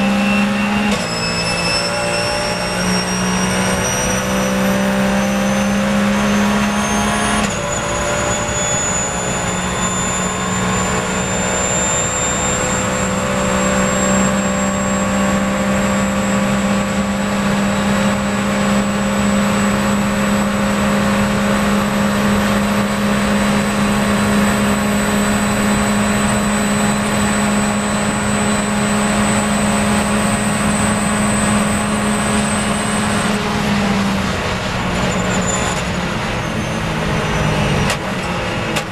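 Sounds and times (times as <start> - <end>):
race car engine at full throttle: 0.0 - 38.9.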